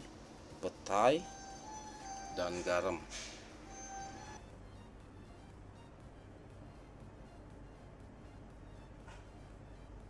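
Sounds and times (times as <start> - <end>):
faint background music: 0.0 - 10.0
low steady hum: 0.0 - 10.0.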